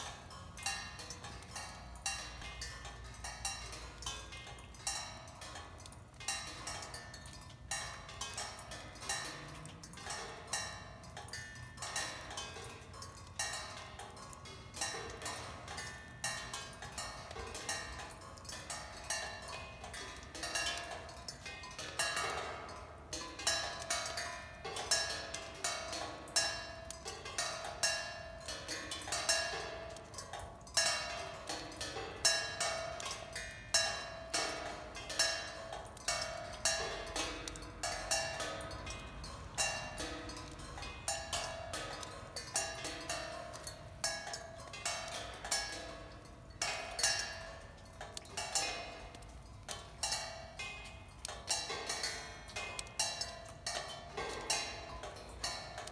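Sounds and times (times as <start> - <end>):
raindrops pinging on cymbals: 0.0 - 55.9.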